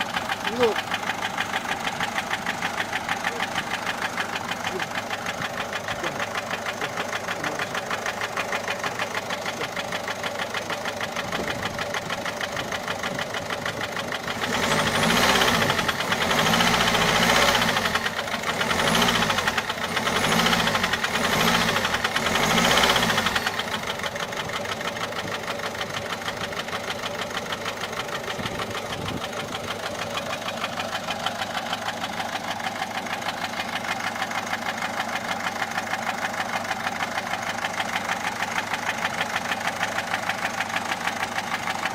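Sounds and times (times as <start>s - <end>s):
diesel engine idling and revving: 0.0s - 41.9s.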